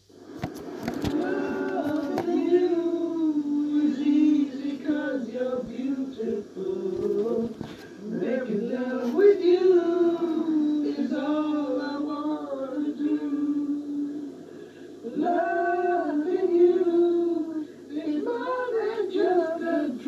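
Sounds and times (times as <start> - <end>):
men singing together: 1.1 - 14.0, 15.1 - 20.0.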